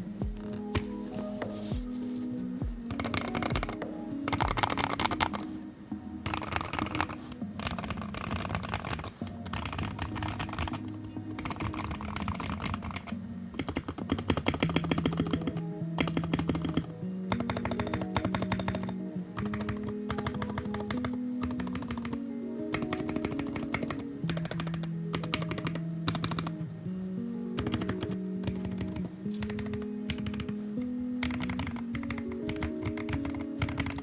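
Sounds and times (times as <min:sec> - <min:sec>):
background music: 0:00.0 - 0:34.0
typing on mechanical keyboard: 0:02.9 - 0:05.5, 0:06.2 - 0:26.6, 0:27.6 - 0:30.6, 0:31.2 - 0:34.0.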